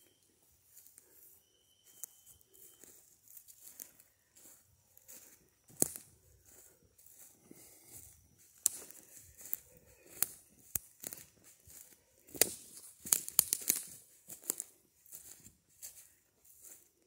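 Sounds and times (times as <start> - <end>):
footsteps through dry leaves: 0.7 - 17.0
twigs cracking underfoot: 2.0 - 16.8.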